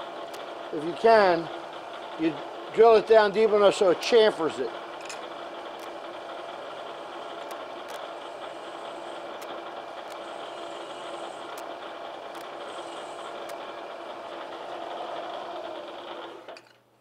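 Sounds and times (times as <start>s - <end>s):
milling machine running: 0.0s - 16.8s.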